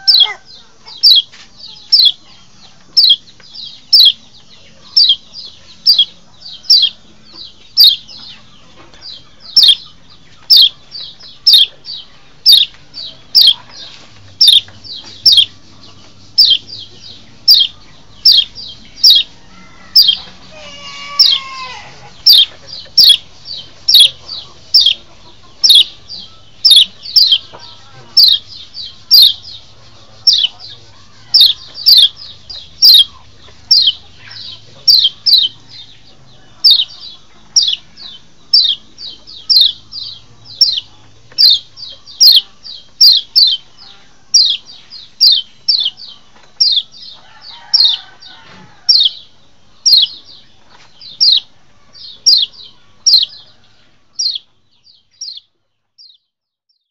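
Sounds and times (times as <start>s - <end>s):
bird sharp chirps: 0.0s - 53.6s, 54.2s - 56.9s.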